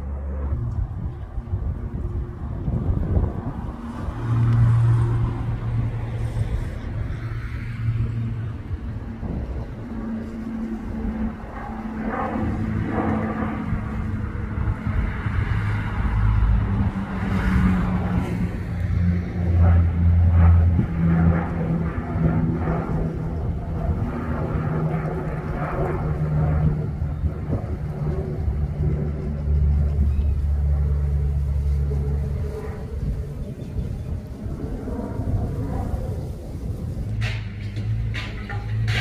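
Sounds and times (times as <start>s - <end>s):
low rumble: 0.0s - 39.0s
propeller plane drone: 0.0s - 39.0s.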